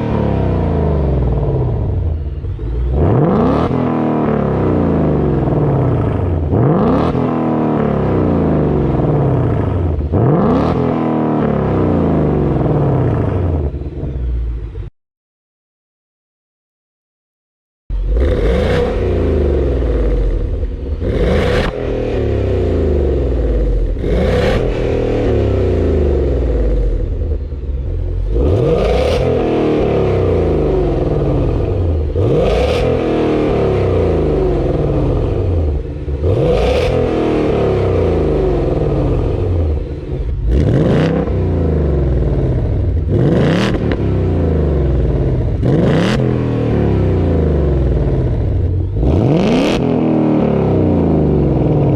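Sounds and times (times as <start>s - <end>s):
car engine exhaust revving: 0.0s - 14.9s, 17.9s - 51.9s.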